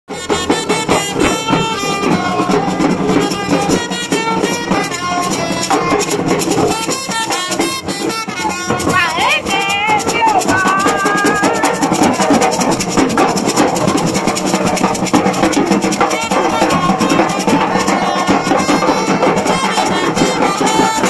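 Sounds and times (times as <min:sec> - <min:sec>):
marching drums: 0:00.1 - 0:21.0.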